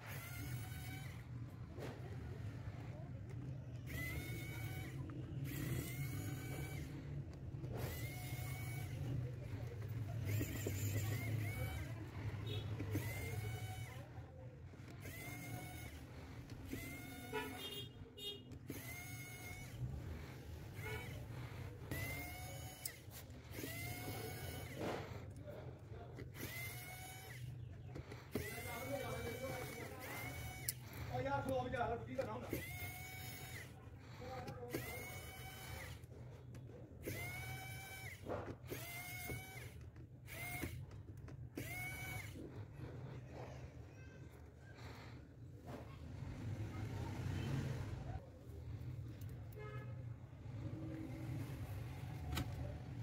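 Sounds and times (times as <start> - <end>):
electric screwdriver whirring: 0.0 - 49.8, 50.4 - 53.0.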